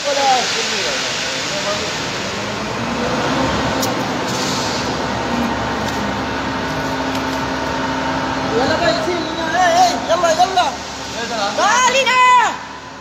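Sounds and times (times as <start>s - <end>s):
machinery droning: 1.2s - 13.0s.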